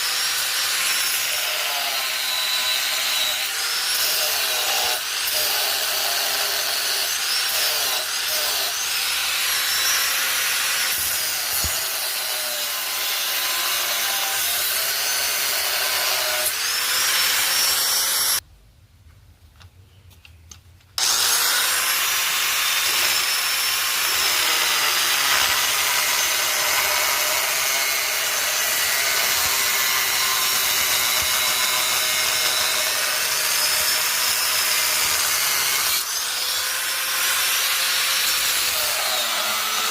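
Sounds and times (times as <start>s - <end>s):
power tool grinding steel: 0.0s - 18.4s, 21.0s - 39.9s.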